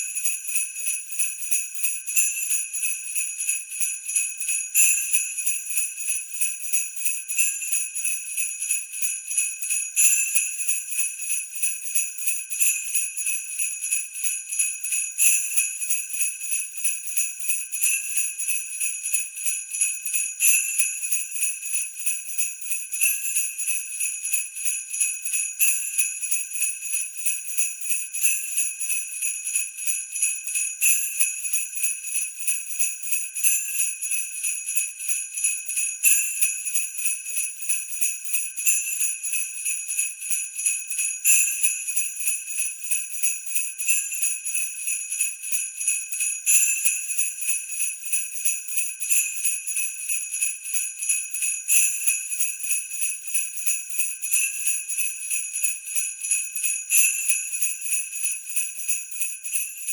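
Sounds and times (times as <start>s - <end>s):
sleigh bells shaken: 0.0s - 59.9s.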